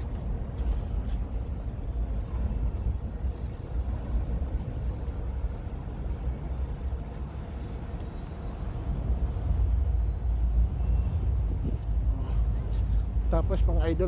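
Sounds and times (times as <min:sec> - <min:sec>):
train rumbling over bridge: 0:00.0 - 0:14.0.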